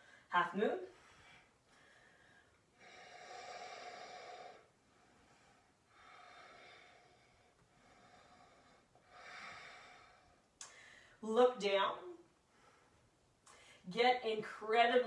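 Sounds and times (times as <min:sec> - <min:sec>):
woman breathing slowly: 0:00.0 - 0:00.3, 0:00.9 - 0:11.2, 0:12.4 - 0:13.9.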